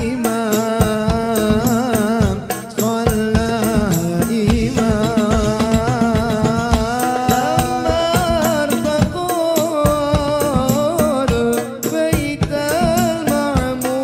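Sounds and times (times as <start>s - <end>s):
frame drums beating: 0.0s - 14.0s
group of voices singing: 0.0s - 14.0s.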